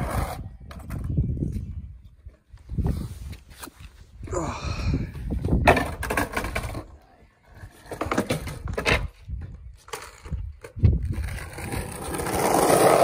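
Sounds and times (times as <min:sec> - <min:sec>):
skateboard wheels rolling on concrete: 0:00.0 - 0:04.2, 0:05.1 - 0:13.0.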